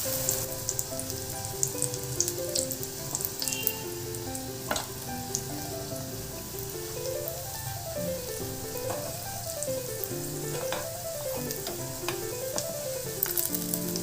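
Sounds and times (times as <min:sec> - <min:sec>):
dough frying in hot oil: 0:00.0 - 0:14.0
soft instrumental melody: 0:00.0 - 0:14.0.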